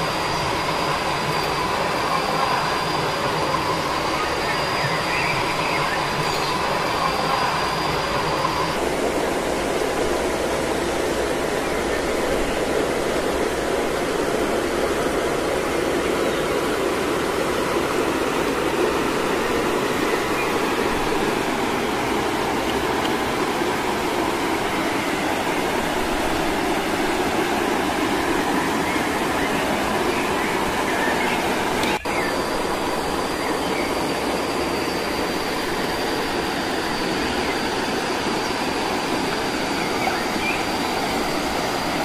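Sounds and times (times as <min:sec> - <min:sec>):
water rushing in a stream: 0:00.0 - 0:42.0.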